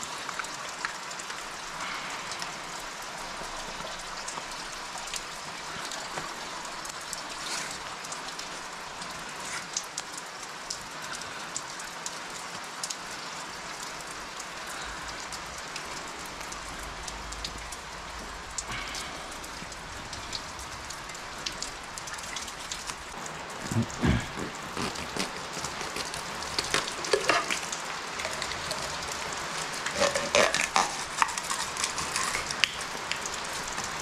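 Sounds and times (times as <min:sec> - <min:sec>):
rain on hard ground: 0:00.0 - 0:34.0.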